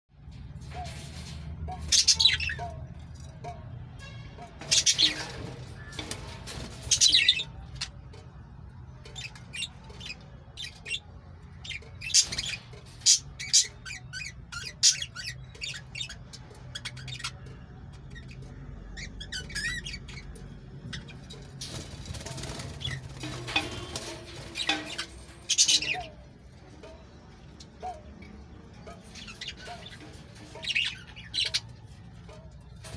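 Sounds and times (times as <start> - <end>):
lovebirds chirping and squawking: 0.2 - 32.9.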